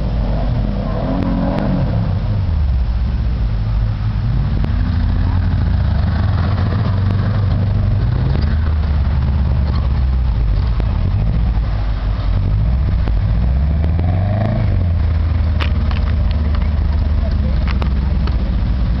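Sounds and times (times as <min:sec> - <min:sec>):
off-road vehicle engine revving: 0:00.0 - 0:03.2, 0:03.8 - 0:19.0.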